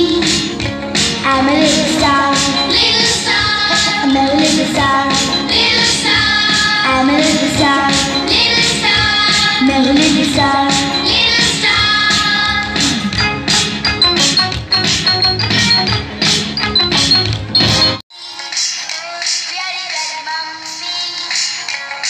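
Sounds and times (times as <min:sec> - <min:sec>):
dance song with vocals and beat: 0:00.0 - 0:13.8, 0:17.6 - 0:22.0.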